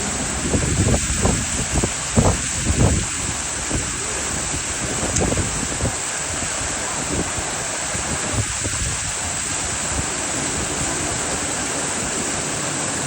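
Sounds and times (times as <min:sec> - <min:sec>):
water rushing through wooden channels: 0:00.0 - 0:13.0.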